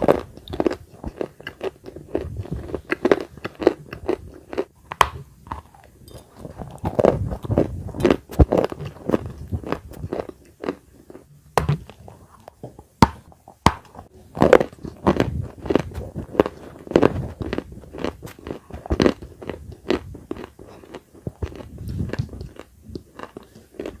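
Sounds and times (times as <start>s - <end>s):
chewing dry clay crunches: 0.0s - 24.0s.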